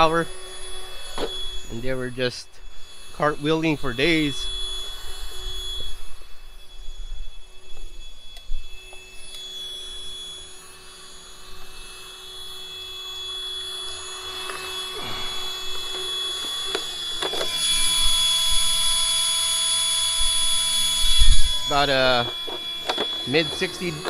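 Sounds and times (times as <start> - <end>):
steady whine with high hiss: 0.0 - 24.0.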